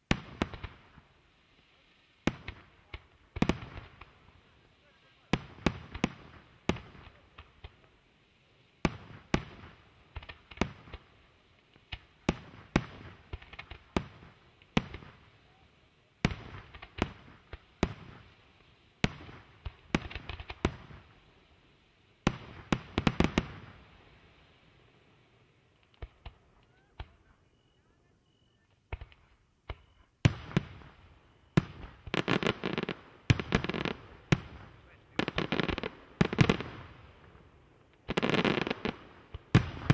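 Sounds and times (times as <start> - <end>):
firework crackling: 0.0 - 27.7, 28.7 - 39.9.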